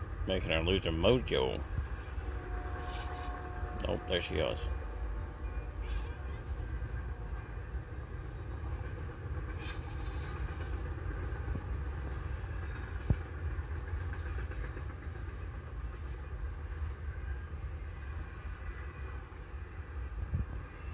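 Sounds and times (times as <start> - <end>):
freight train rumbling past: 0.0 - 20.9.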